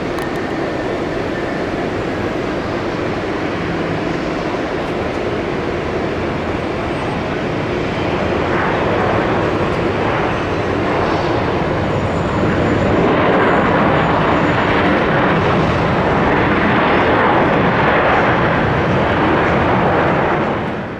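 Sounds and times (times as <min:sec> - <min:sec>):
jet engines rushing and rumbling: 0:00.0 - 0:20.9.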